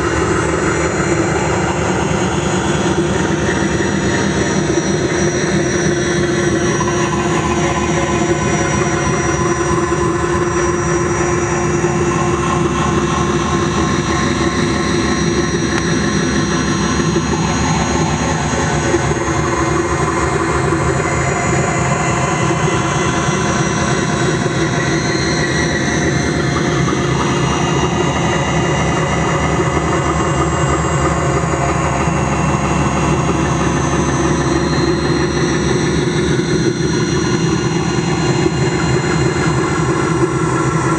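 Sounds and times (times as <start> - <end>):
electronic drone: 0.0 - 40.9.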